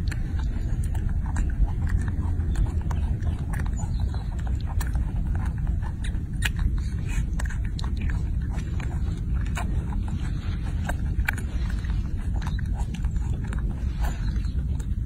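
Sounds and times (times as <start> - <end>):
monkey chewing wet smacks: 0.0 - 15.0
steady low rumble: 0.0 - 15.0.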